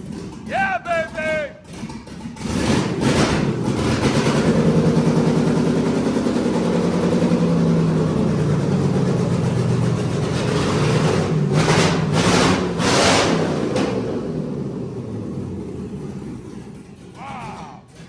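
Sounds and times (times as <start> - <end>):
loud engine running without exhaust: 1.6 - 17.2.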